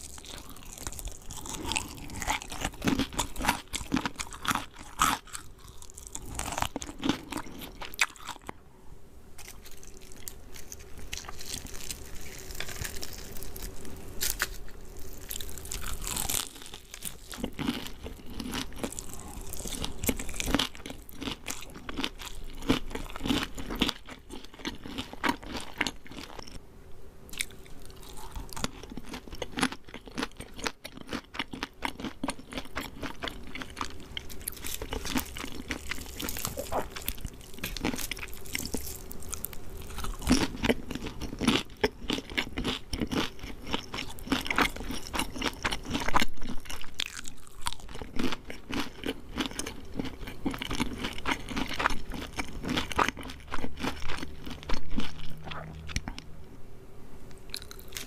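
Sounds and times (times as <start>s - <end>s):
crunchy chewing of fried chicken: 0.0s - 8.7s, 9.4s - 26.6s, 27.3s - 56.3s, 57.2s - 58.0s.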